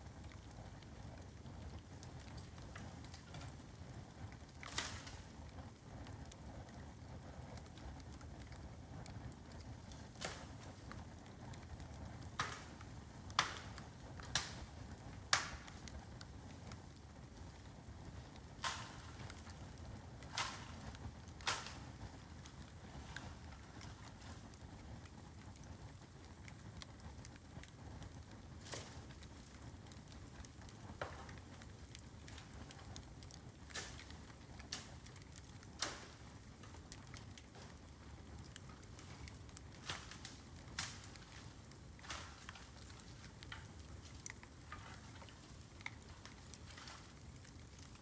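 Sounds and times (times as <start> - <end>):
bamboo crackling and popping: 0.0 - 48.0
low rush of fire: 0.0 - 48.0.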